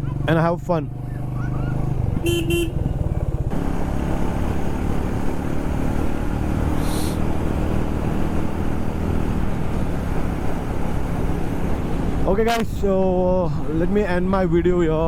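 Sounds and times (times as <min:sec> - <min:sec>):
motorcycle engine running: 0:00.0 - 0:13.7
wind and road noise: 0:00.0 - 0:15.0.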